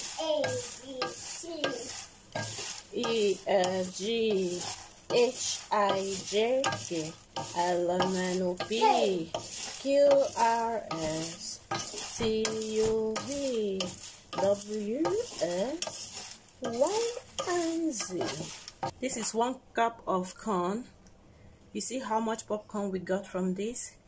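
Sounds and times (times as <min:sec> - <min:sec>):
wooden spoon stirring in metal pot: 0:00.0 - 0:19.6.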